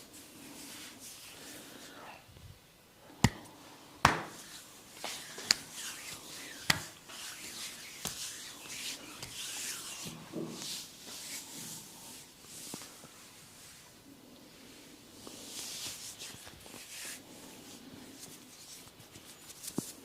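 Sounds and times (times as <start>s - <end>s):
hands rubbing skin and hair: 0.0s - 2.0s, 3.2s - 13.8s, 15.2s - 20.0s.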